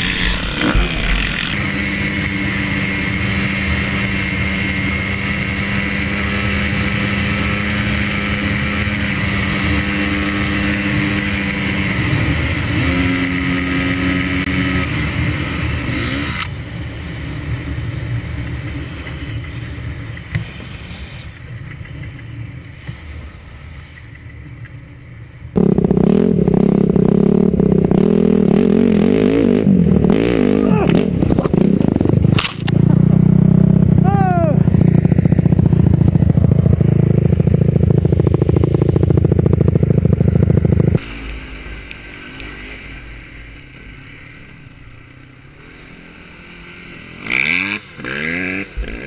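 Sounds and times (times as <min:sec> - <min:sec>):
dirt bike engine: 0:00.0 - 0:49.0.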